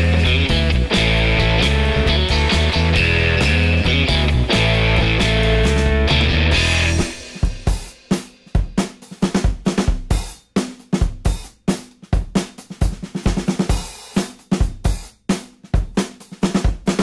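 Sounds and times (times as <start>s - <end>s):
rock drum kit beat: 0.0s - 17.0s.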